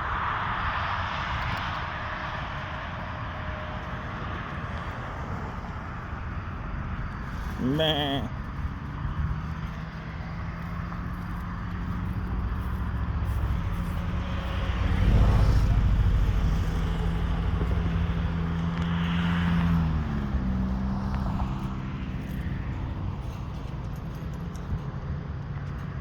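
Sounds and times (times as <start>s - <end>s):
vehicle engine humming: 0.4s - 26.0s.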